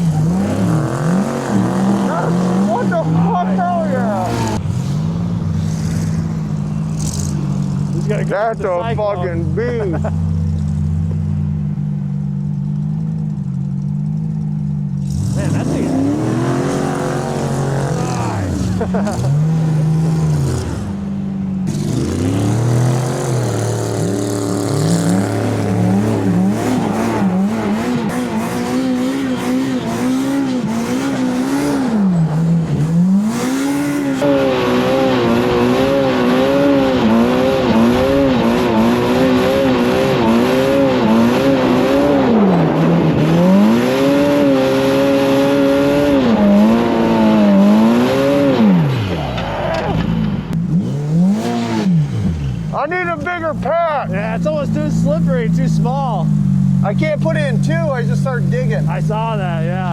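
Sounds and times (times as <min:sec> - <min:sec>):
utility vehicle engine revving: 0:00.0 - 0:59.9
wheelspin in snow: 0:00.0 - 0:59.9.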